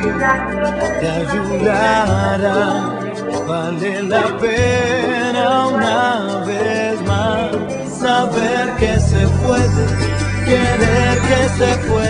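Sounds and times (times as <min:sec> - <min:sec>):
music with singing voice: 0:00.0 - 0:12.0.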